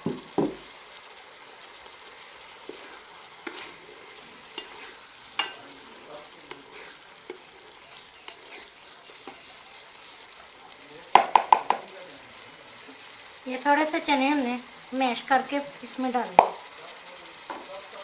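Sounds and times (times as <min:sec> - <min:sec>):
curry sizzling in a pot: 0:00.0 - 0:18.0.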